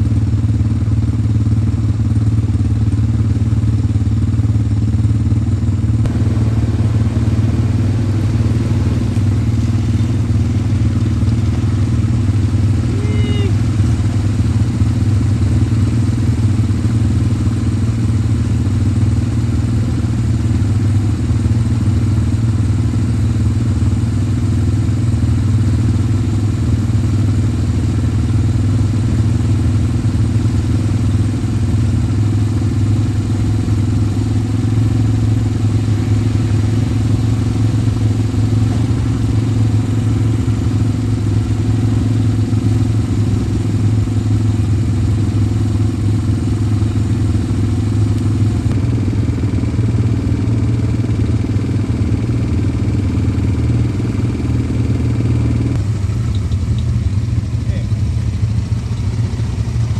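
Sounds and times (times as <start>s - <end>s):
atv engine idling: 0.0s - 59.9s.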